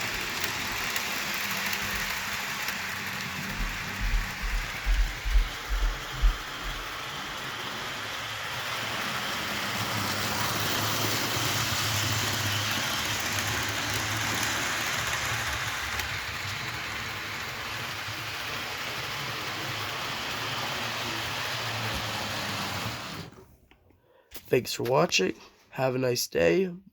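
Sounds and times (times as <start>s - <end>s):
model train motor hum: 0.0s - 23.4s
wheels rolling on rails: 0.0s - 23.4s.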